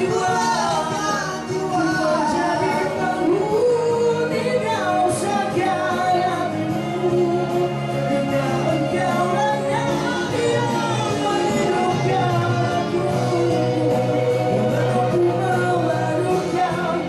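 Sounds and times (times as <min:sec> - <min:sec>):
accompanying music: 0:00.0 - 0:17.0
man singing into microphone: 0:00.0 - 0:17.0.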